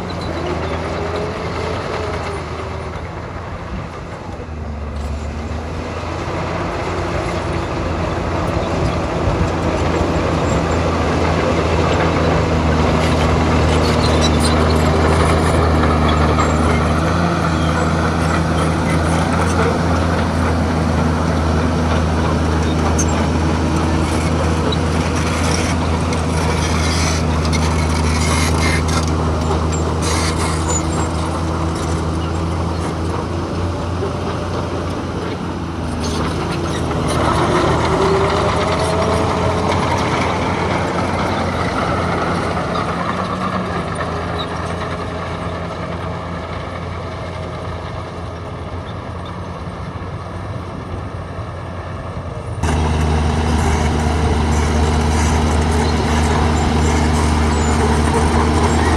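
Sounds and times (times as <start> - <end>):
diesel engine droning and revving: 0.0 - 58.9.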